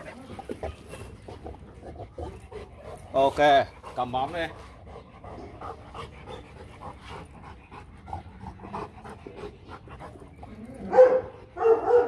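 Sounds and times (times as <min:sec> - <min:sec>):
dog panting: 0:00.0 - 0:11.6.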